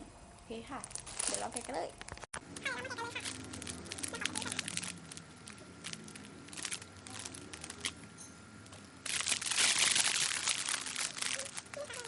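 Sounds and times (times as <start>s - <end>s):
plastic packaging crinkling: 0.8s - 12.0s.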